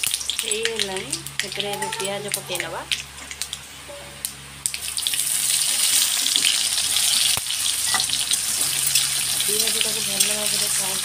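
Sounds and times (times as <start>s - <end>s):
onions sizzling in hot oil: 0.0s - 3.5s, 4.6s - 11.0s.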